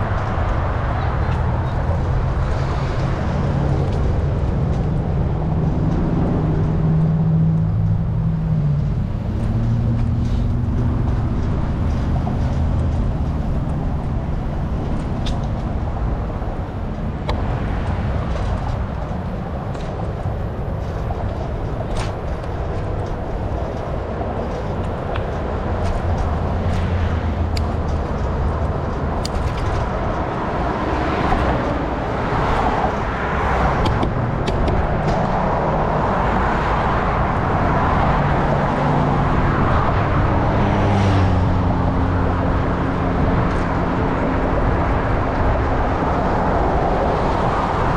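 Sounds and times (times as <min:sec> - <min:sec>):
road traffic passing: 0:00.0 - 0:47.9
wind rumbling on microphone: 0:00.0 - 0:47.9.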